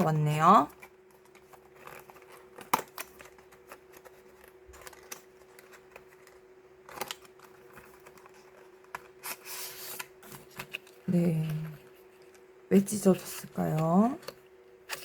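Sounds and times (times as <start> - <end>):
plastic packaging crinkling: 0.0 - 12.6
faint steady hum: 0.0 - 15.0.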